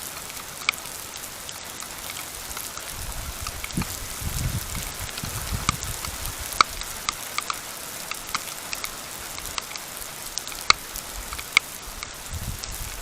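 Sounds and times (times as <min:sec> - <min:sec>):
raindrops ticking on camera: 0:00.0 - 0:13.0
steady hiss: 0:00.0 - 0:13.0.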